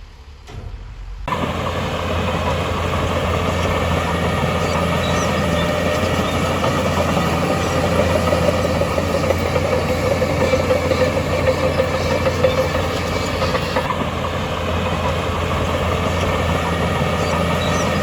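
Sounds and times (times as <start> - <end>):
heavy machinery diesel engine: 0.4 - 18.0.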